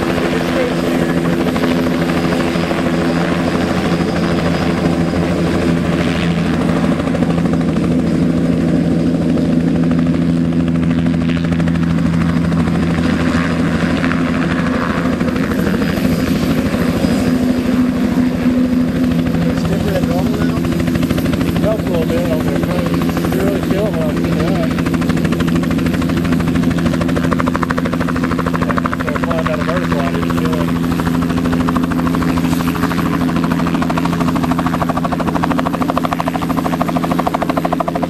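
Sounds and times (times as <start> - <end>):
helicopter hovering: 0.0 - 38.0.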